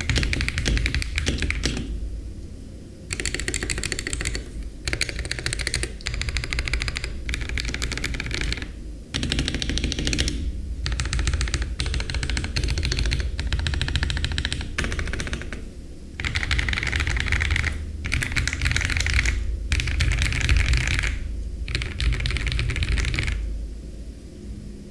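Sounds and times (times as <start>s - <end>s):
fast mechanical keyboard typing: 0.0s - 2.0s, 3.1s - 23.4s.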